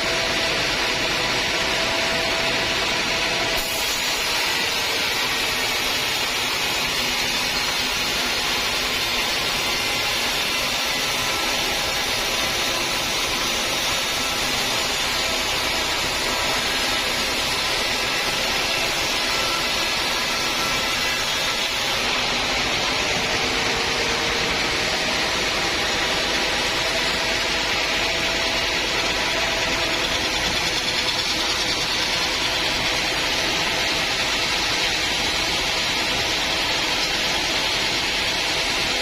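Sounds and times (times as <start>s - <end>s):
sawmill saw cutting log: 0.0s - 39.0s.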